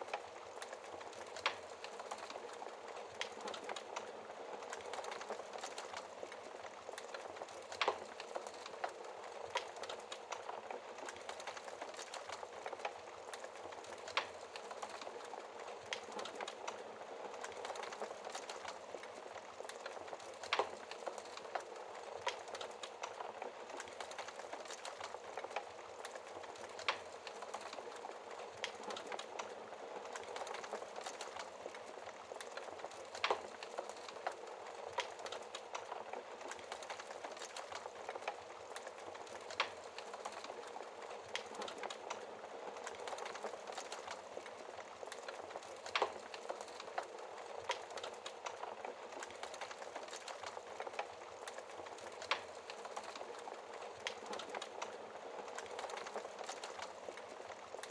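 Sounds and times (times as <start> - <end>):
fire hissing and crackling: 0.0 - 57.9
fire popping: 0.0 - 57.9.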